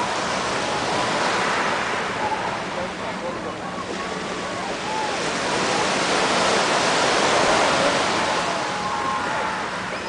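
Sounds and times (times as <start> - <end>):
waves washing up a shore: 0.0 - 10.0.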